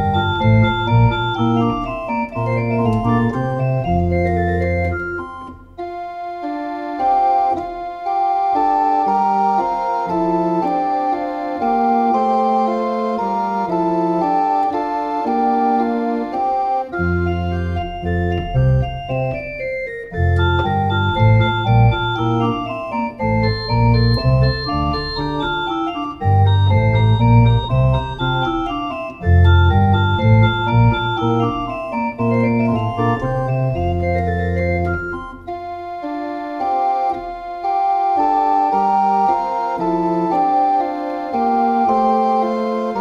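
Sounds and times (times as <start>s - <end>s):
electronic organ playing chords: 0.0s - 43.0s.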